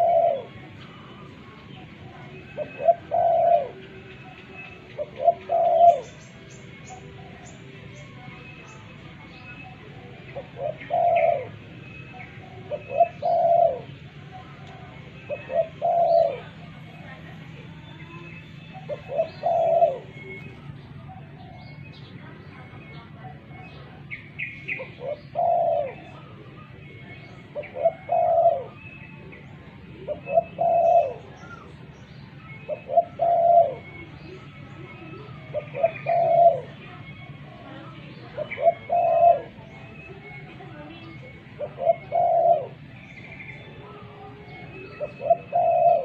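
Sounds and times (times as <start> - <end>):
dove cooing: 0.0 - 46.0.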